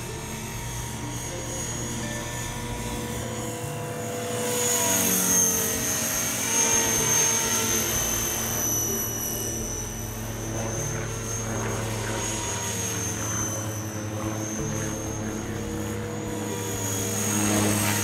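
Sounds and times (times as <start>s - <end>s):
rc helicopter motor whine: 0.0s - 18.0s
rush of spinning rotor blades: 0.0s - 18.0s.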